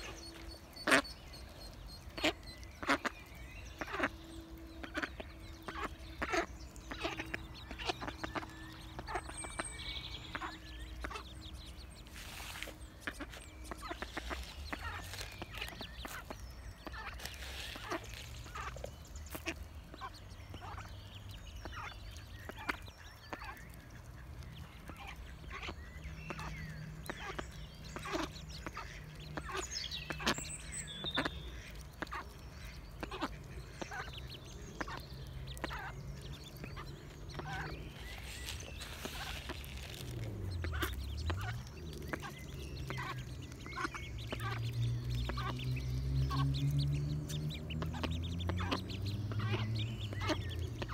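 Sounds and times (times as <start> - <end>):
bills pecking at ground: 0.0 - 50.9
high duckling peeps: 0.0 - 50.9.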